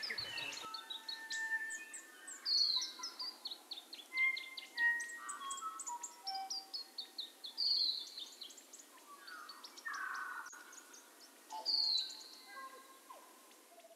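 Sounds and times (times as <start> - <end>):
birds singing and calling: 0.0 - 13.9.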